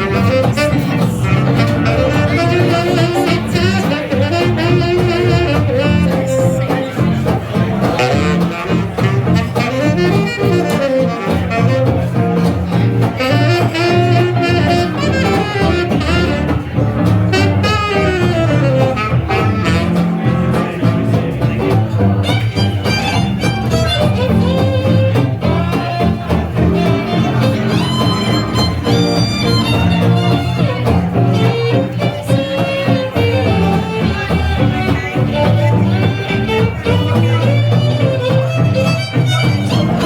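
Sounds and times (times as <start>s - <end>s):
horn melody: 0.0s - 40.0s
jazz rhythm section: 0.0s - 40.0s
upright bass: 0.0s - 40.0s.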